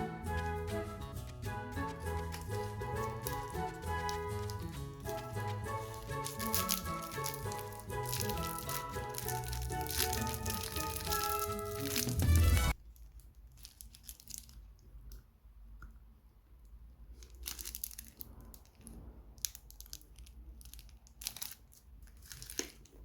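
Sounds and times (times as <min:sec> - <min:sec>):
wrappers crinkling and tearing: 0:00.0 - 0:14.7, 0:17.1 - 0:23.0.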